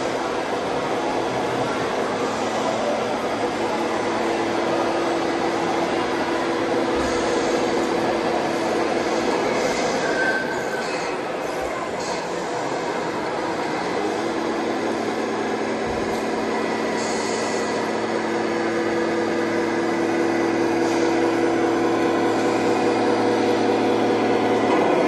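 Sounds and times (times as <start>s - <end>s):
busy exhibition hall noise: 0.0s - 25.0s
simulated diesel engine drone: 0.0s - 25.0s.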